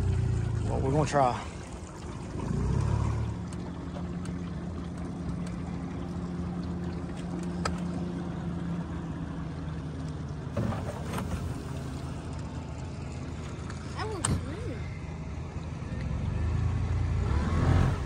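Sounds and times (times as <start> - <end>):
outboard motor humming: 0.0 - 18.0.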